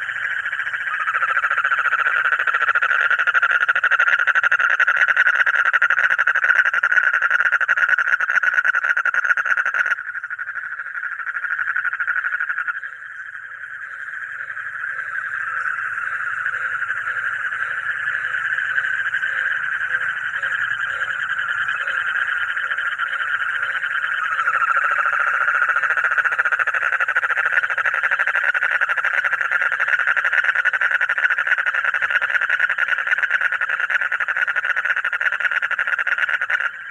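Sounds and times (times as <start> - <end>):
frog trilling: 0.0 - 36.9.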